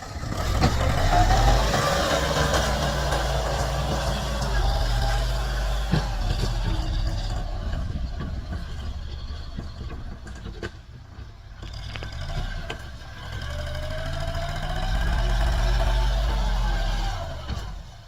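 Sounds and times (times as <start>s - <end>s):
tractor diesel engine: 0.0s - 18.0s.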